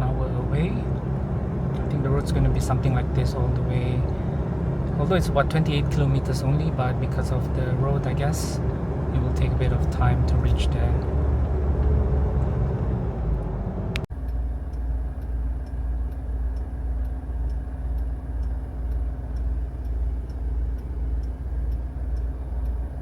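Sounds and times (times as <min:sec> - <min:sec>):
diesel engine droning: 0:00.0 - 0:23.0
light ticking: 0:00.0 - 0:23.0
road noise: 0:00.0 - 0:23.0.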